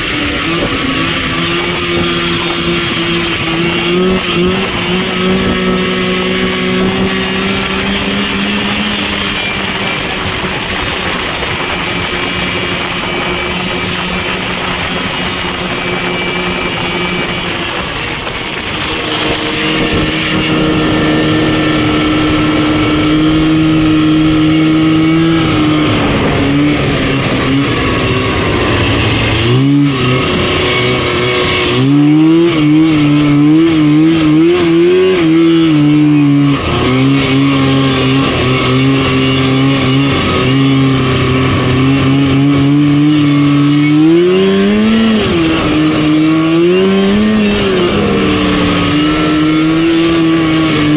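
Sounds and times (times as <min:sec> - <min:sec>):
snowmobile engine revving high: 0:00.0 - 0:50.9.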